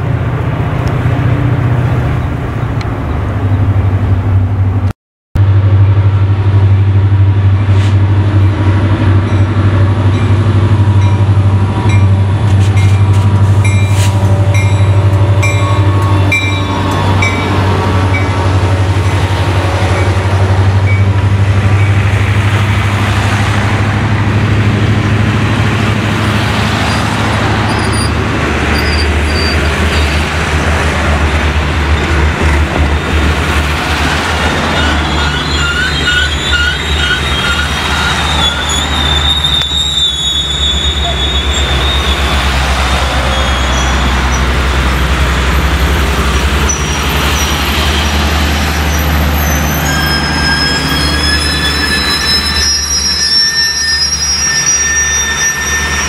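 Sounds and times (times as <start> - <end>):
locomotive engine rumble: 0.0 - 56.0
train cars rolling on rails: 0.0 - 56.0.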